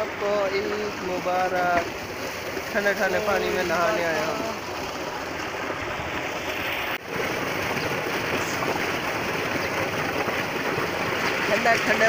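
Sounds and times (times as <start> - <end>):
water pouring into concrete tank: 0.0 - 12.0.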